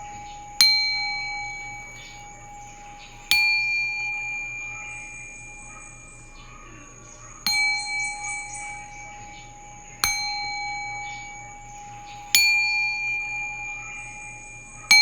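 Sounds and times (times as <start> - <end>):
metal bell ringing: 0.0 - 15.0.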